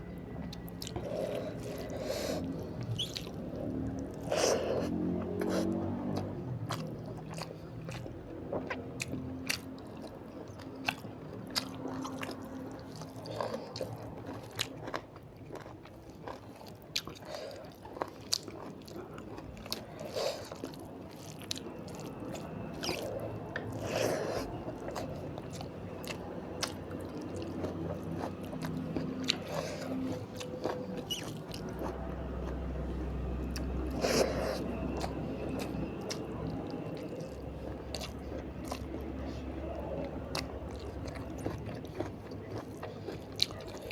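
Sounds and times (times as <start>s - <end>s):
chewing and crunching food: 0.0s - 43.9s.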